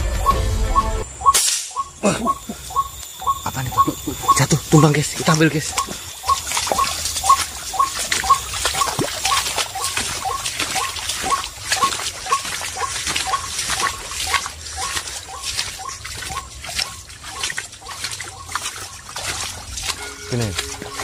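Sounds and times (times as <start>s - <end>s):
bird calling: 0.0s - 21.0s
footsteps splashing through water: 1.2s - 21.0s.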